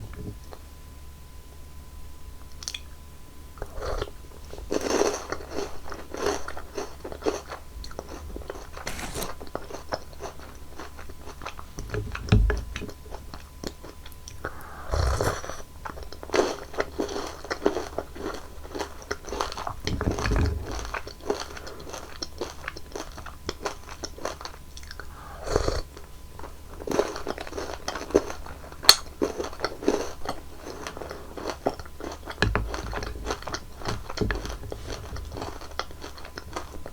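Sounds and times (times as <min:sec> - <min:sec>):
crunchy chewing: 0:03.6 - 0:36.9.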